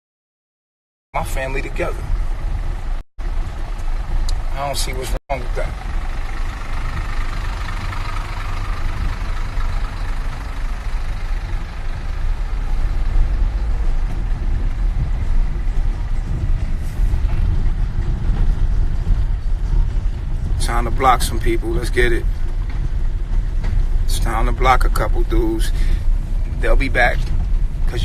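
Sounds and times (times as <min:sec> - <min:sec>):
road noise: 0:01.2 - 0:28.0
vehicle engine rumble: 0:01.2 - 0:28.0.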